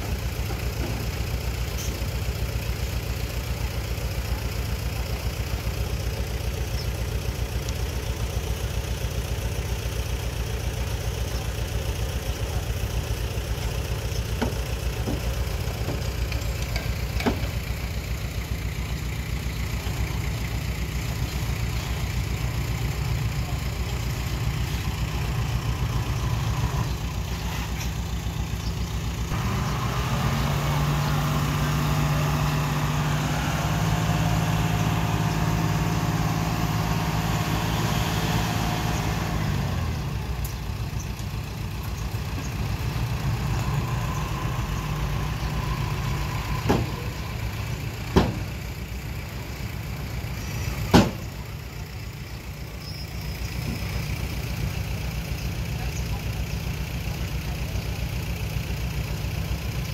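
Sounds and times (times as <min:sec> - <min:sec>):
diesel engine running low: 0:00.0 - 0:59.9
engine working at higher pitch: 0:00.0 - 0:59.9.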